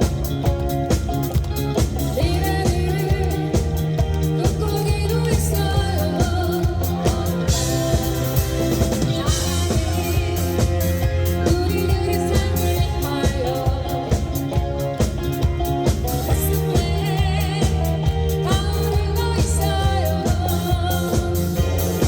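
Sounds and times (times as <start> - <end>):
live rock band playing: 0.0 - 22.0
person singing: 2.0 - 22.0.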